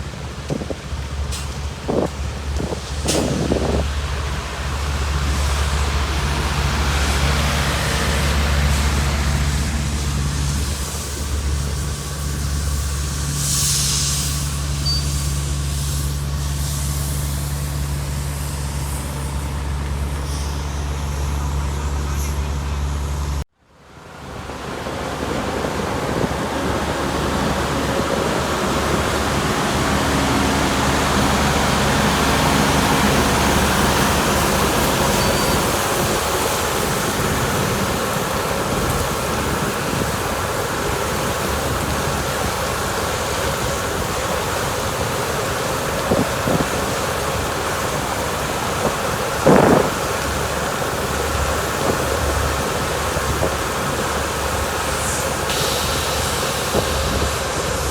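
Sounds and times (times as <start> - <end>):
low engine hum: 0.0 - 57.9
road-paving machinery running: 0.0 - 57.9.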